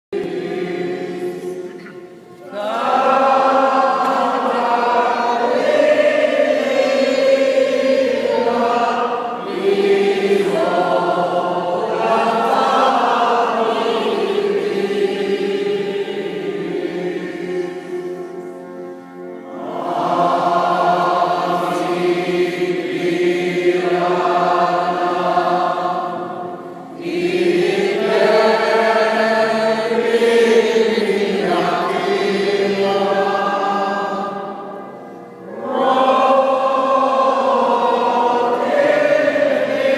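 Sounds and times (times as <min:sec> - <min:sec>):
congregation singing in unison: 0:00.1 - 0:39.9.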